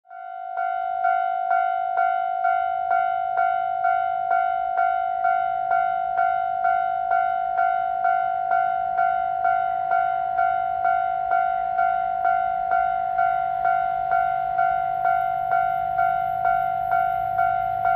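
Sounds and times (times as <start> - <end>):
level-crossing alarm bell ringing: 0.1 - 17.9.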